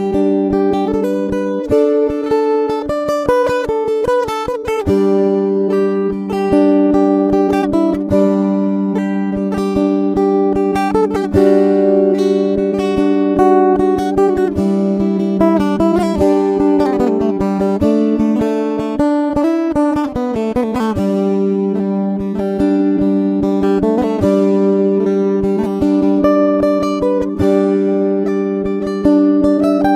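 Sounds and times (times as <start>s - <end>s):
acoustic guitar strumming chords: 0.0s - 29.9s.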